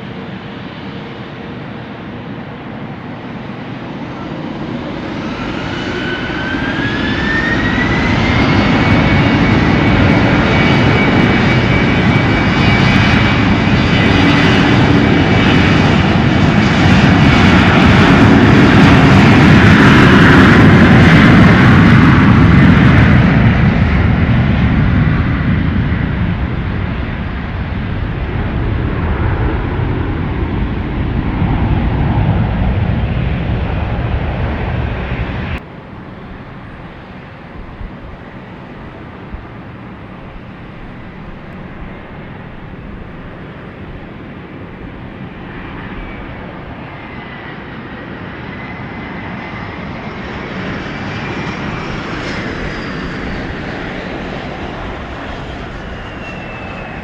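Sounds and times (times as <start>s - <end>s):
airliner engines whining: 0.0s - 57.0s.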